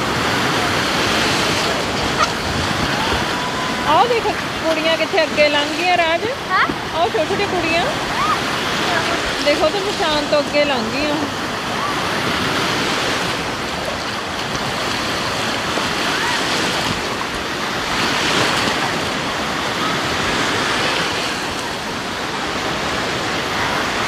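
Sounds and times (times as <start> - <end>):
waves breaking in surf: 0.0 - 24.0.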